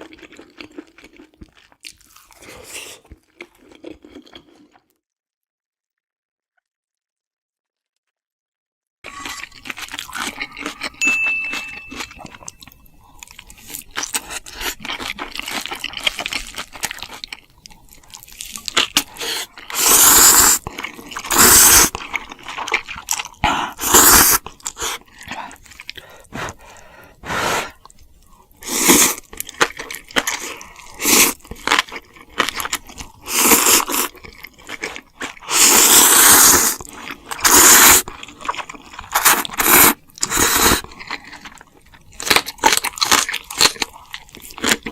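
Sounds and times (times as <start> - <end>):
crunching and chewing crisp food: 0.0 - 5.1, 9.1 - 44.9.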